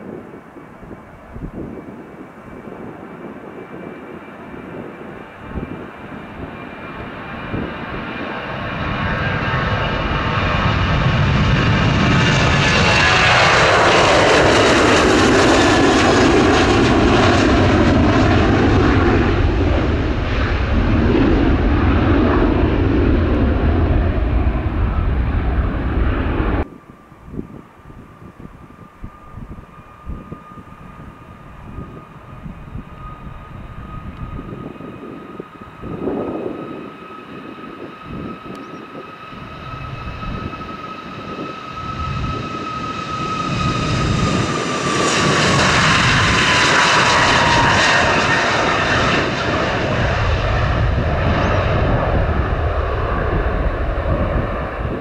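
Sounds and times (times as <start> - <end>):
jet airliner engines at takeoff: 0.0 - 55.0
jet engine whine passing: 0.0 - 55.0.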